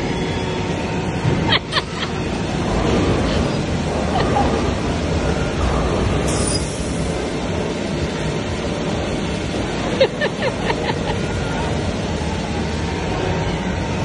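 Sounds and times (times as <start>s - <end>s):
ride machinery rumbling: 0.0s - 14.0s.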